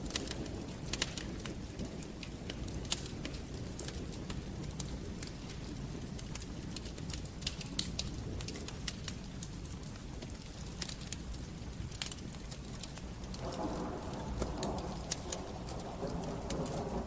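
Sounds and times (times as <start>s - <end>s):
burning wood crackling and popping: 0.0s - 17.0s
fire flames rumbling: 0.0s - 17.0s.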